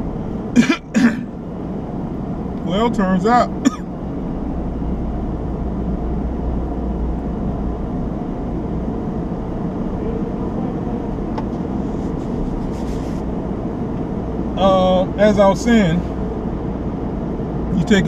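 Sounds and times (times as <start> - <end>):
truck engine idling in cab: 0.0 - 18.0.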